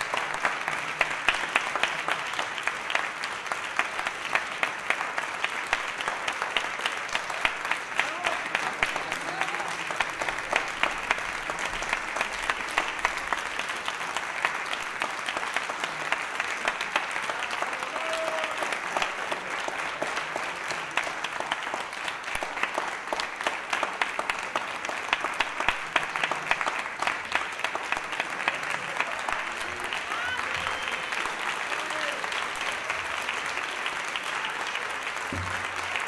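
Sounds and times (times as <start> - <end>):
audience applause: 0.0 - 36.0.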